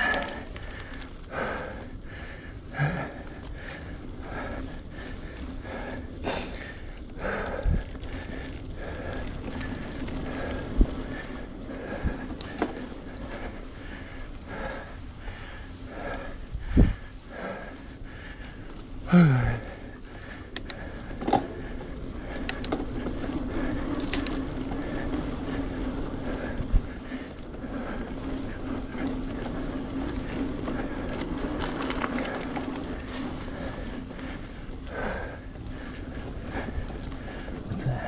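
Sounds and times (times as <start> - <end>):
bike riding noise: 0.0 - 38.0
person breathing hard: 0.0 - 38.0.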